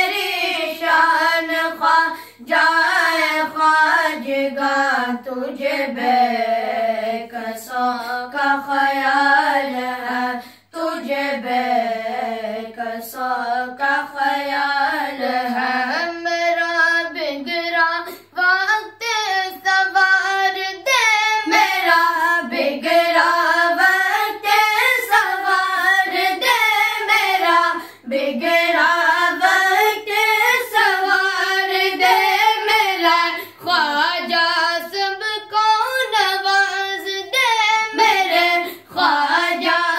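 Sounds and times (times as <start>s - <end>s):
boys singing a hymn: 0.0s - 39.9s.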